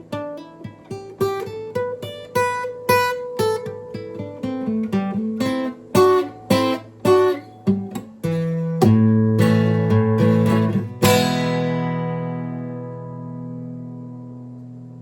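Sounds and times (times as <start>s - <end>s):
guitar chord ringing: 0.0s - 15.0s
plucked guitar melody: 0.0s - 15.0s.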